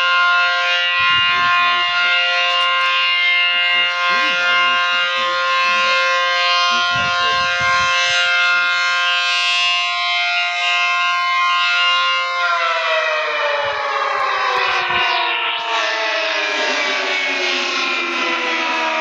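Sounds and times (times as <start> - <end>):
steady multi-pitch warning siren: 0.0 - 19.0.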